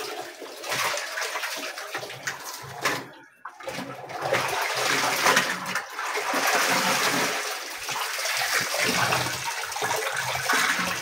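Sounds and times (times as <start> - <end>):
water rushing in washing machine: 0.0 - 11.0.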